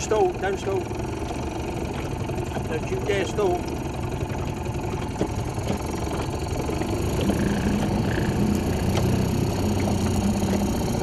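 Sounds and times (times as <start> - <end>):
outboard motor running low: 0.0 - 11.0.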